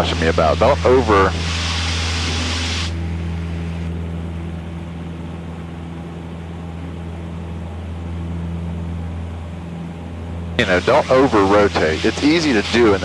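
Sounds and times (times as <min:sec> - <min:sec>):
small plane engine droning: 0:00.0 - 0:13.0.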